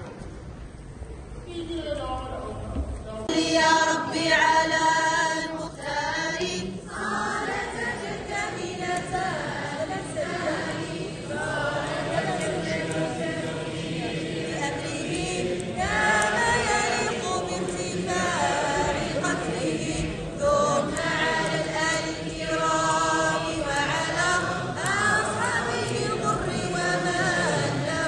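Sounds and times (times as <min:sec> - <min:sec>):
group of voices chanting a song: 0:03.3 - 0:28.0.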